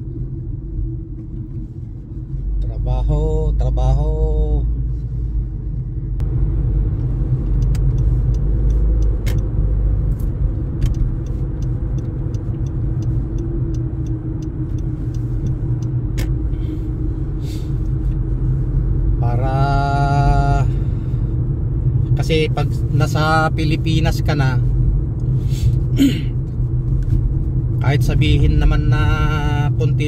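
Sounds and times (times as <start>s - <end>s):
car road and engine rumble: 0.0s - 30.0s.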